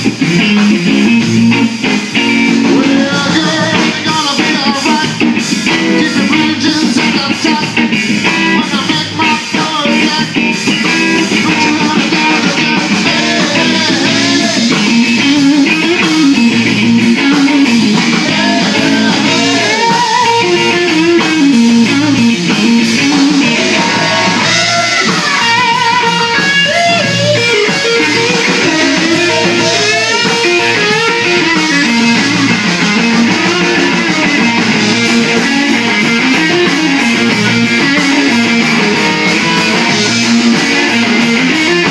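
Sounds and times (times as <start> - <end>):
blues band playing: 0.0 - 41.9
electric guitar lead: 0.0 - 41.9.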